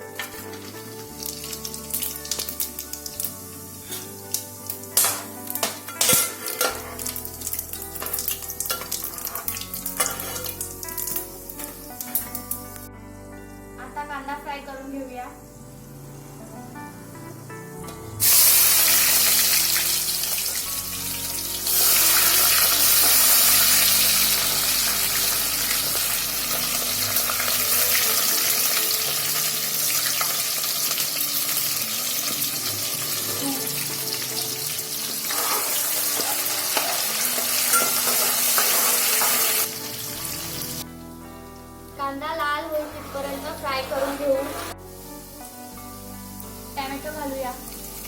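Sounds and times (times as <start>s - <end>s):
onions sizzling in hot oil: 0.0s - 13.6s, 18.2s - 48.0s.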